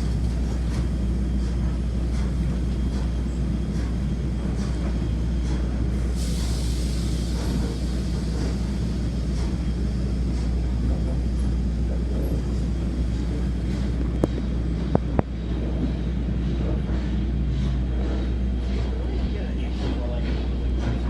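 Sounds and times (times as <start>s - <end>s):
train engine idling: 0.0s - 21.0s.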